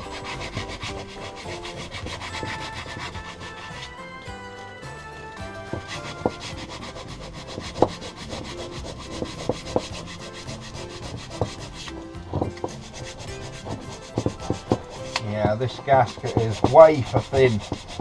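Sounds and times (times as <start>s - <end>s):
sandpaper rubbing on metal: 0.0s - 4.6s, 5.5s - 18.0s.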